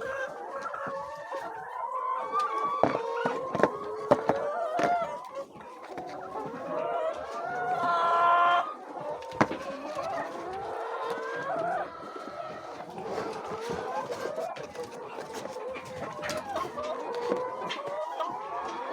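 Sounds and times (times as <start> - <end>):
chickens clucking: 0.0 - 18.9.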